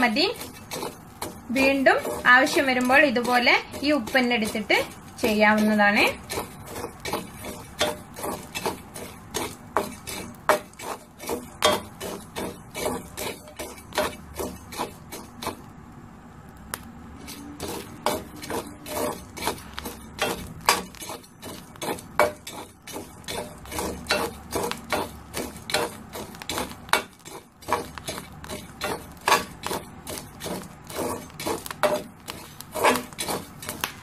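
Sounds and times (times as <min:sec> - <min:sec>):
spatula scraping a pan: 0:00.0 - 0:15.7, 0:17.2 - 0:34.0.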